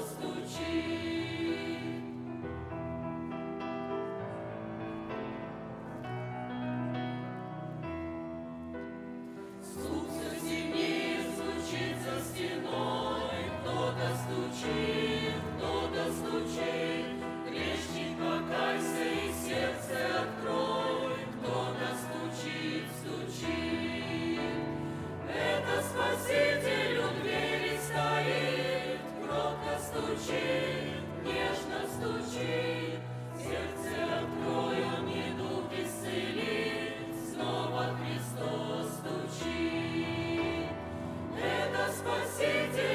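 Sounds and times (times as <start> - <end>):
church choir singing: 0.0 - 42.9.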